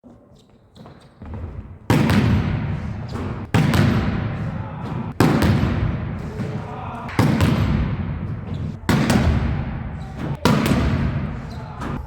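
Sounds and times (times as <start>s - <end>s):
ball bouncing on gym floor: 0.8s - 12.0s.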